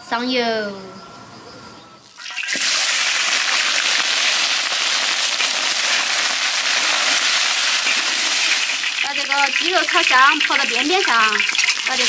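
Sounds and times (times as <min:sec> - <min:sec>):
chicken sizzling in hot oil: 0:02.0 - 0:12.0.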